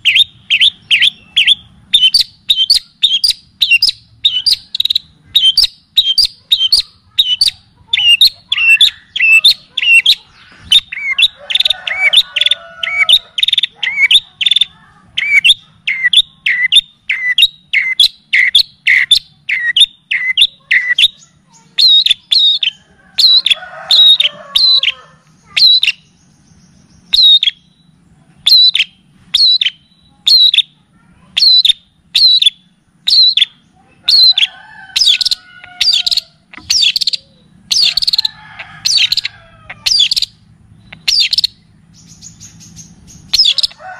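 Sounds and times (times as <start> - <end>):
soft bird warbling: 0.0 - 26.1, 27.1 - 43.9
songbird whistled notes: 0.0 - 30.8, 31.4 - 38.3, 38.9 - 43.8.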